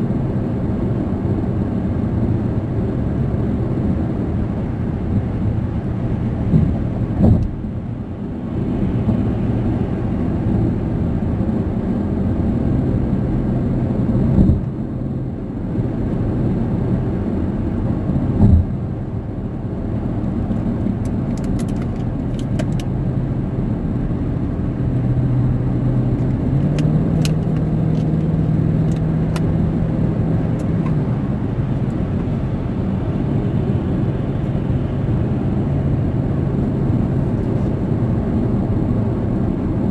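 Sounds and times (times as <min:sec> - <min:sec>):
car tyre and engine drone: 0:00.0 - 0:39.9.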